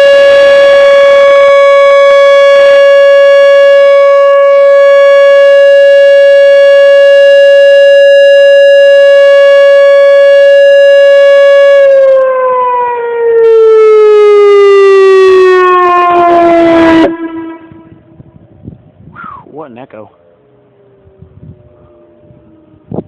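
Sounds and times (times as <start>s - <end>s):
outdoor warning siren steady tone: 0.0s - 19.0s, 20.2s - 23.0s.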